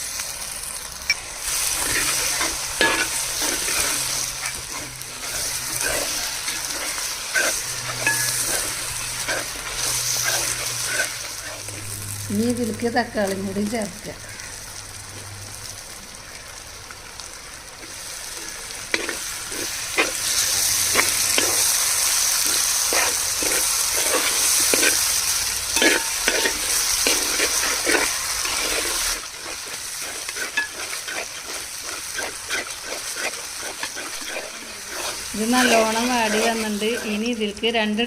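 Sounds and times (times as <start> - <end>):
food sizzling in hot oil: 0.0 - 38.0
spoon stirring and scraping pan: 1.1 - 11.9, 17.8 - 37.7.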